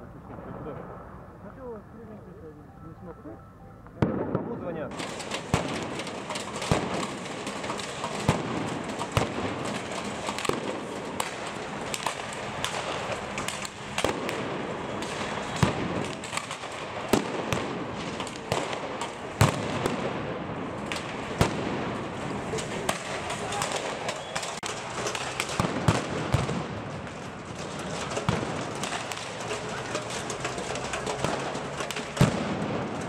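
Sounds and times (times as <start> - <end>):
noisy crowd din: 0.0 - 33.0
sharp bangs: 4.0 - 33.0.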